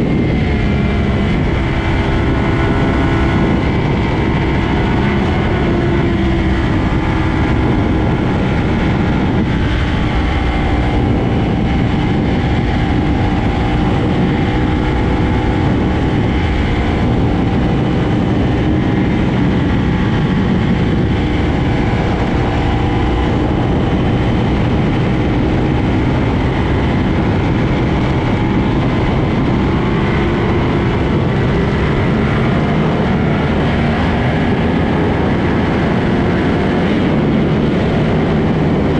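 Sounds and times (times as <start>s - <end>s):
loud rushing noise: 0.0s - 38.9s
motorcycle engines cruising: 0.0s - 38.9s.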